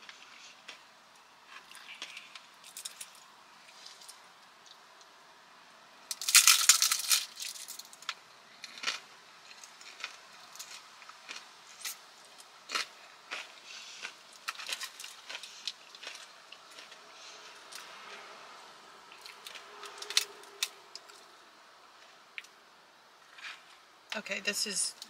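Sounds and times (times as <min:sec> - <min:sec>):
crunchy chewing: 0:00.0 - 0:05.1, 0:06.2 - 0:18.4, 0:19.1 - 0:21.4, 0:23.2 - 0:23.9.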